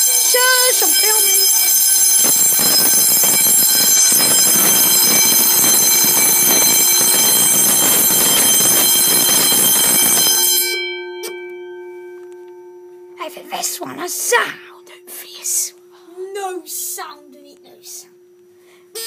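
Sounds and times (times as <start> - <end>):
fire alarm bell ringing: 0.0 - 15.7.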